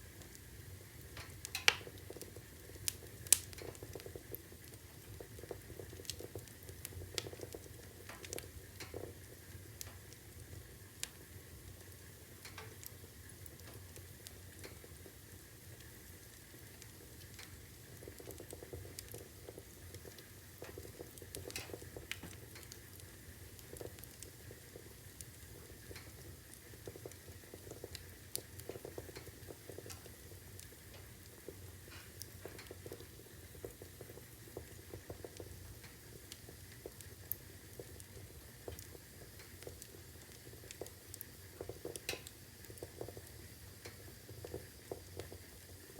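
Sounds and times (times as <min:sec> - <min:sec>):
fire rumbling: 0:00.0 - 0:45.9
logs crackling and popping: 0:00.0 - 0:45.9.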